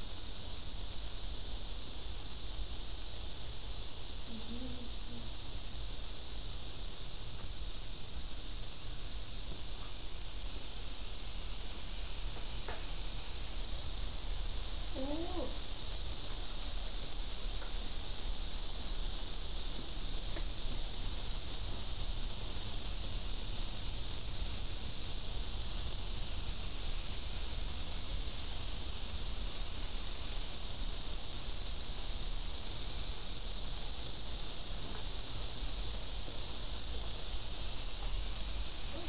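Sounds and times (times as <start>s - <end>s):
insects buzzing: 0.0s - 39.0s.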